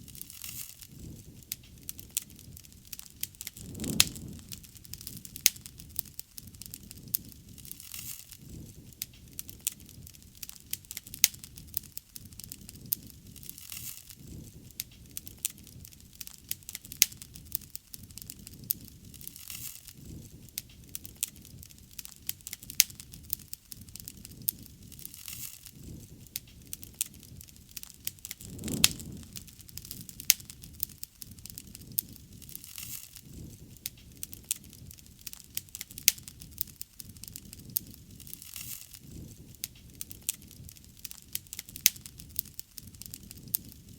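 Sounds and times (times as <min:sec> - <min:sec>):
bonfire crackling and popping: 0:00.0 - 0:43.9
low rushing fire: 0:00.0 - 0:43.9.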